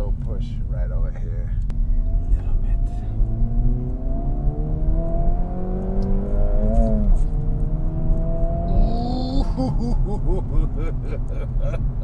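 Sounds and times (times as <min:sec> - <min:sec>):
car engine accelerating: 0:01.6 - 0:12.0.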